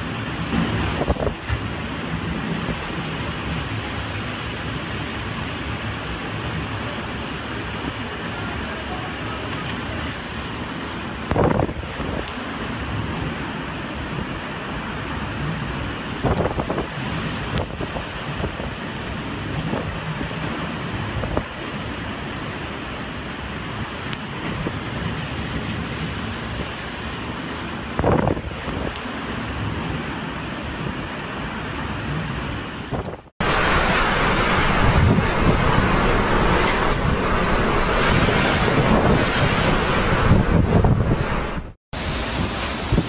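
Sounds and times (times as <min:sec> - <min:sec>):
driving rain: 0:00.0 - 0:43.0
strong wind buffeting microphone: 0:00.0 - 0:43.0.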